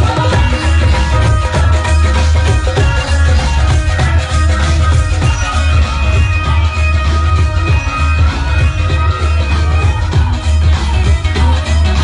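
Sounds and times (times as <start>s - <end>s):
loud amplified concert music: 0.0s - 12.0s.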